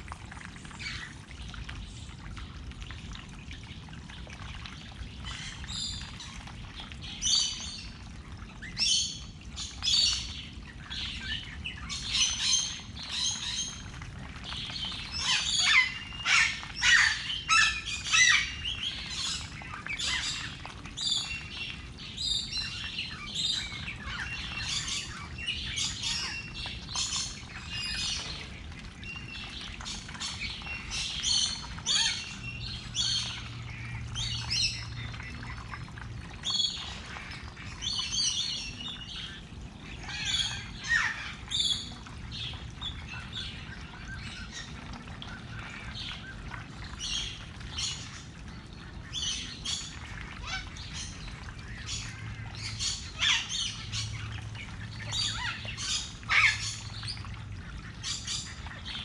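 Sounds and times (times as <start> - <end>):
low steady hum: 0.0 - 59.0
birds squawking and chirping: 3.5 - 59.0.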